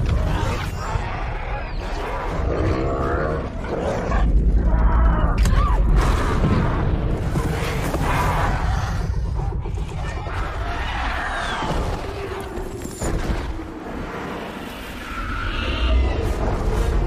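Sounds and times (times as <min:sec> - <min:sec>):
deep continuous rumble: 0:00.0 - 0:17.0
dinosaur roars and growls: 0:00.0 - 0:17.0.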